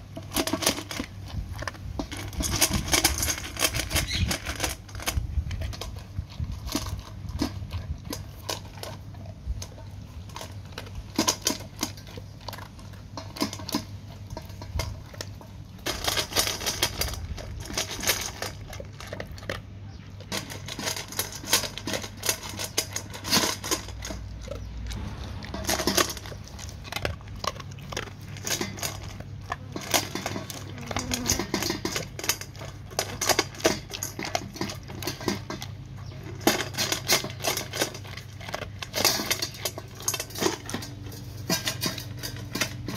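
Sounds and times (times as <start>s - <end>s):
dog crunching kibble: 0.0s - 42.9s
kibble clinking in metal bowl: 0.0s - 42.9s.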